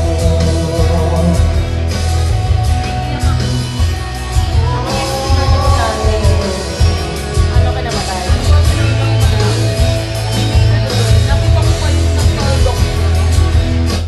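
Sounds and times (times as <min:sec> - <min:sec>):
karaoke backing track with guitar: 0:00.0 - 0:14.0.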